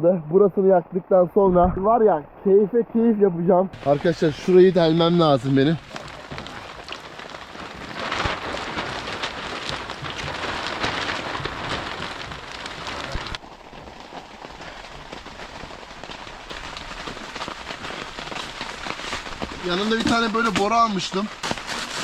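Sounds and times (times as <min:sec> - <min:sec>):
rain on plastic sheet: 0:00.3 - 0:22.0.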